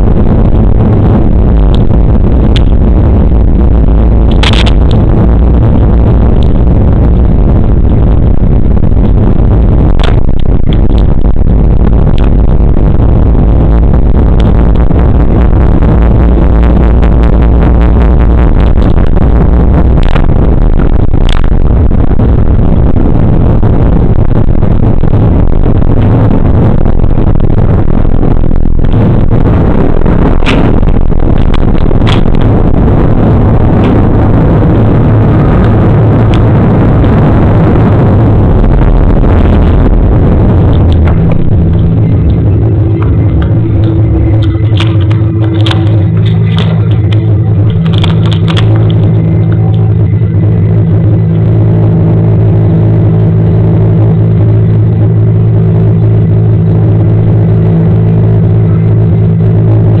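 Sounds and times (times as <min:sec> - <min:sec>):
jet engine roar: 0:00.0 - 1:00.0.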